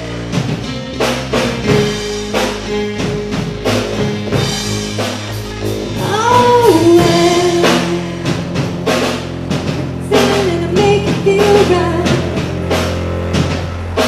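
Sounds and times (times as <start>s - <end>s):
drum kit steady beat: 0.0s - 14.0s
electric guitar: 0.0s - 14.0s.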